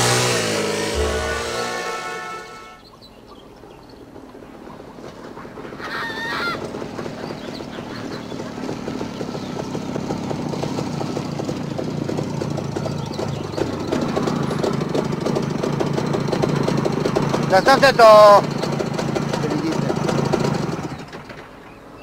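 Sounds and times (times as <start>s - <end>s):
two-stroke motorcycle approaching: 0.0s - 22.0s.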